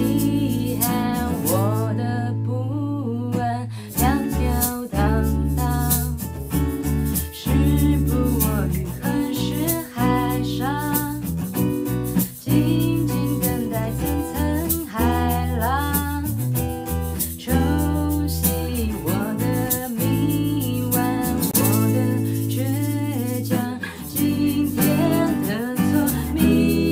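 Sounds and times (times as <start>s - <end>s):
strummed acoustic guitar: 0.0s - 2.5s, 3.1s - 26.9s
woman singing: 0.0s - 6.4s, 7.1s - 11.3s, 12.2s - 16.4s, 17.1s - 26.9s
electric bass: 0.0s - 26.9s.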